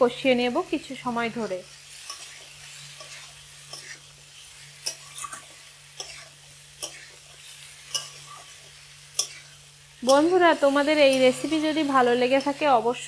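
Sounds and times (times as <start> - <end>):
faint sizzle: 0.0 - 13.0
metal spatula scraping a pan: 1.9 - 13.0.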